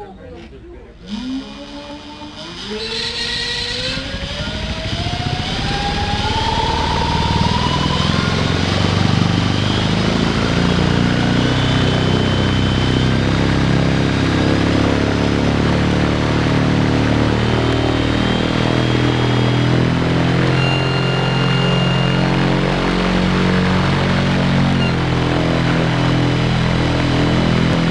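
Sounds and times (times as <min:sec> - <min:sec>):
electric motor whine: 0:01.0 - 0:27.9
propeller drone: 0:01.7 - 0:27.9.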